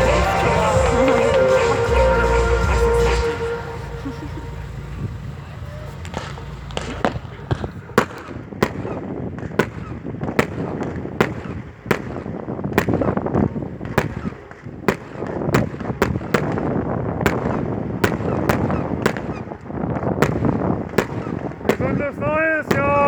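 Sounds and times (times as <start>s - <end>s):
constant noisy background: 0.0s - 23.0s
fireworks bangs and cracks: 0.0s - 23.0s.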